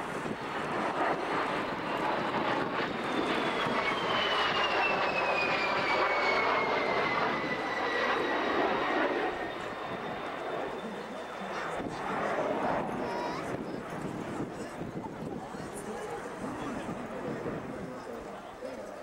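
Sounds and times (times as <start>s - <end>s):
jets flying overhead: 0.0s - 19.0s.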